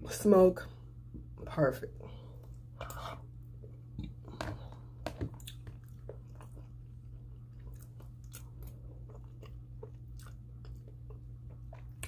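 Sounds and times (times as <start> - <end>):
steady low hum: 0.0 - 12.0
person chewing food: 2.3 - 12.0.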